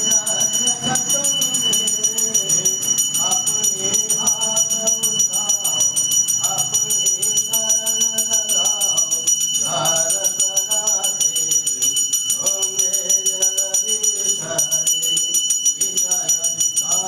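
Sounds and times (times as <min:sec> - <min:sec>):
hand bell ringing rapidly: 0:00.0 - 0:17.0
voices singing: 0:00.0 - 0:17.0.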